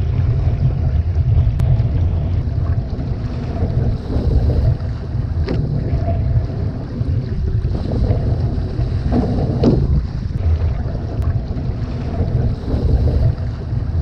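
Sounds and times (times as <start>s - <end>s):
water rushing along canoe hull: 0.0s - 14.0s
wind buffeting microphone: 0.0s - 14.0s.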